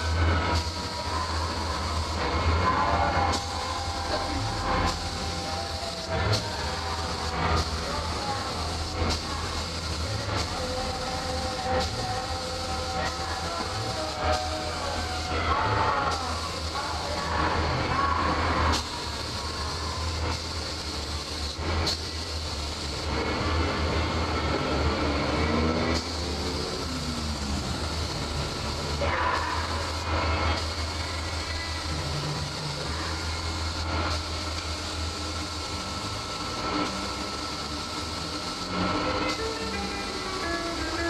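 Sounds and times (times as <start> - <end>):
low machine hum: 0.0 - 41.0
spray gun air hiss: 0.0 - 41.0.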